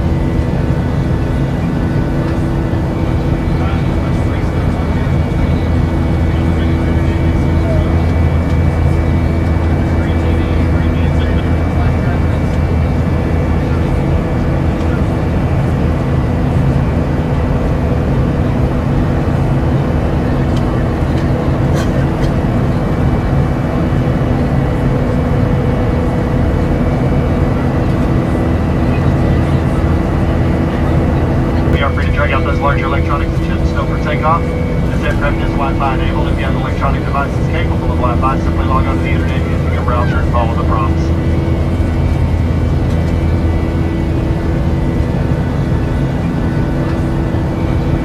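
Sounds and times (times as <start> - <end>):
faint steady hums: 0.0 - 48.0
jet airliner cabin noise: 0.0 - 48.0.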